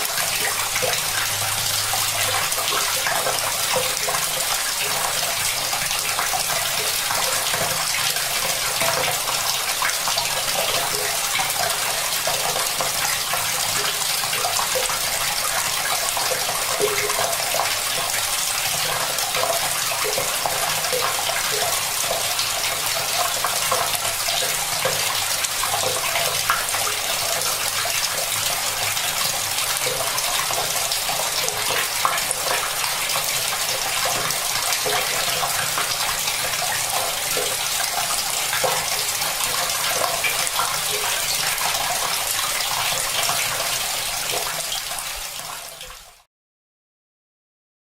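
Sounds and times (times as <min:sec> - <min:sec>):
tap water running into bucket: 0:00.0 - 0:46.3.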